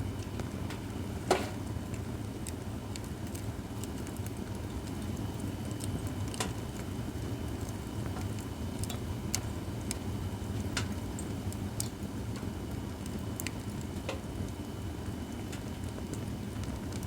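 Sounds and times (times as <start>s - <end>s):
low fire rumble: 0.0s - 17.0s
firewood crackling and popping: 0.1s - 17.0s.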